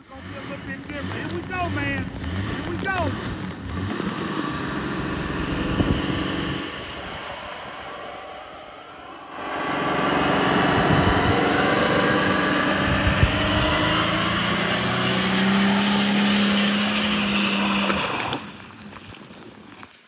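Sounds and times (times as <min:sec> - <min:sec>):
tyres spinning on wet pavement: 0:00.0 - 0:08.4, 0:09.4 - 0:19.7
pickup engine revving hard: 0:00.0 - 0:18.5.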